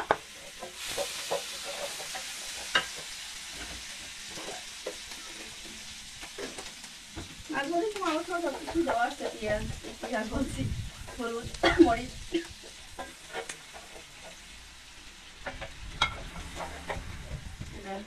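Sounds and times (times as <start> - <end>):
wooden spatula scraping a pan: 0.0 - 14.6, 15.3 - 18.0
curry sizzling in a pan: 0.0 - 18.0.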